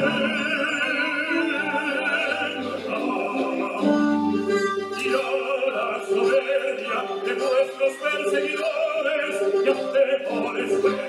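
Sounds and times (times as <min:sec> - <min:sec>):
opera singing with accompaniment: 0:00.0 - 0:11.0.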